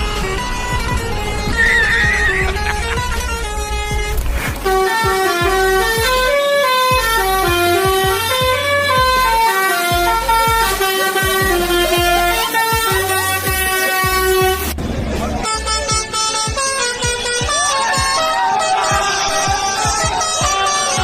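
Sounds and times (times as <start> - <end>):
truck musical horn: 0.0 - 14.8, 15.4 - 21.0.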